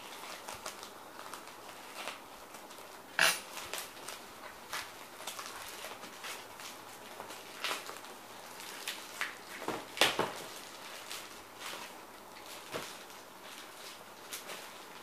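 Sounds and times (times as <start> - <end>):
plastic crinkling: 0.0 - 15.0.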